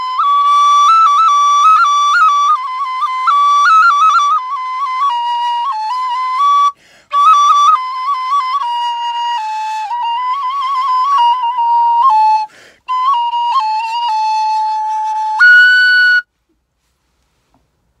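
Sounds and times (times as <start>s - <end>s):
wooden flute playing folk melody: 0.0s - 16.5s.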